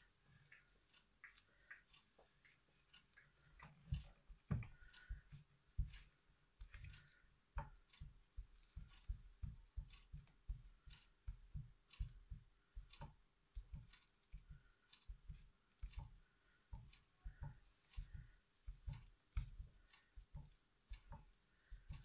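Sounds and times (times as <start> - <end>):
soft knocks and light clicks: 0.0 - 22.0.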